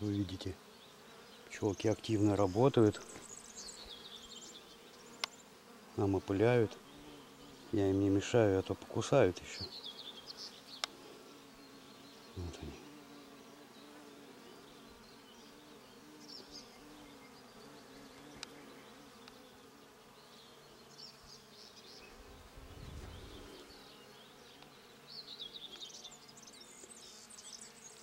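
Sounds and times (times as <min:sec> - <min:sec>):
bees humming: 0:00.0 - 0:28.0.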